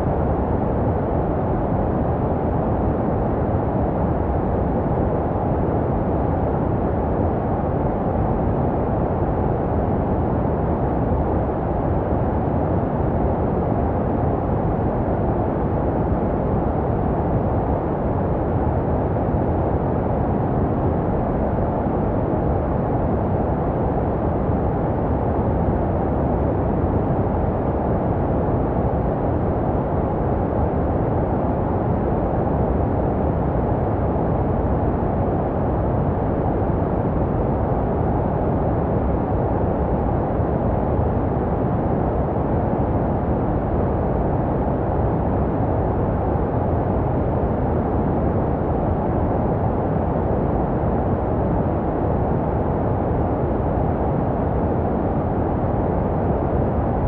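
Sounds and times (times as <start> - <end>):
deep muffled white noise: 0.0 - 57.0.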